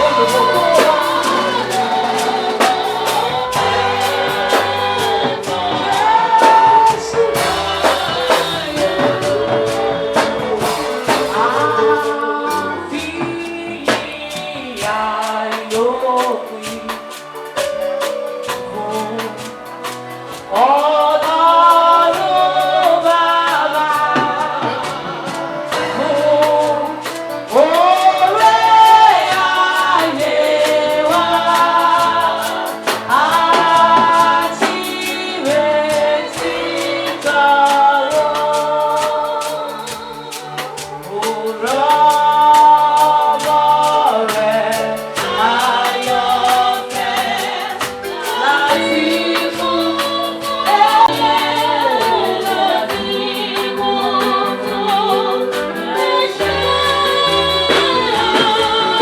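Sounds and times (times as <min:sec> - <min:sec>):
gospel band with drum beat: 0:00.0 - 0:59.0
voices singing together: 0:00.0 - 0:59.0.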